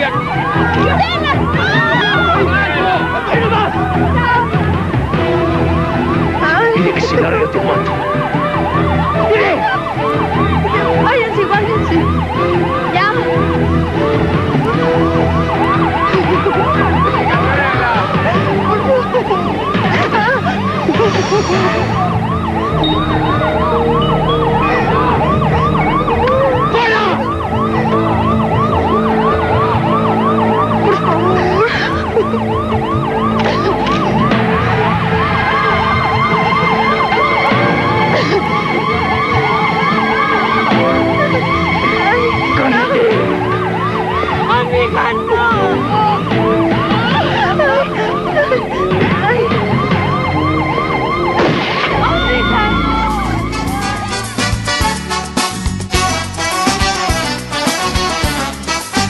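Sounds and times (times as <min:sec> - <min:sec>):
siren in fast yelp: 0:00.0 - 0:55.2
steady low tones: 0:02.4 - 0:55.9.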